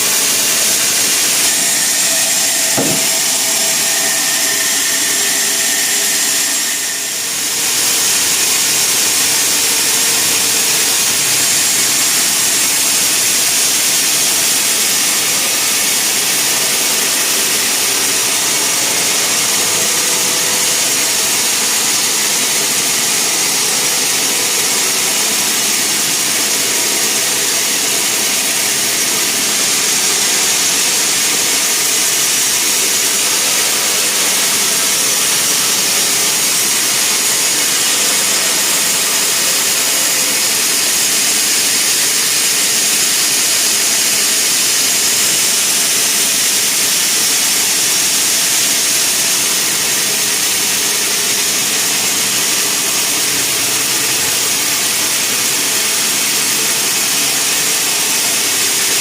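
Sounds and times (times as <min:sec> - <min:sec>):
sawmill machinery high hiss: 0:00.0 - 0:59.0.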